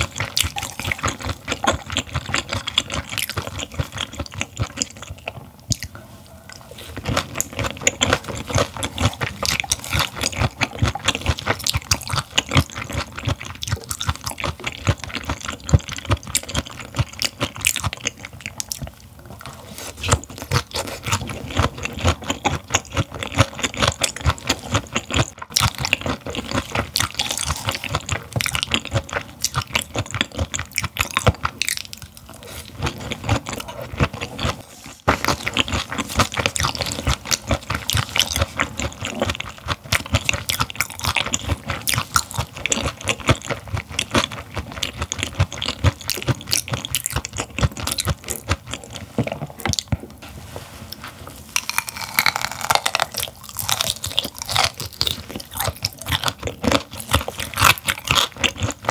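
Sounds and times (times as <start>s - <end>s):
chewing with clicks and smacks: 0.0s - 50.2s, 51.6s - 58.9s.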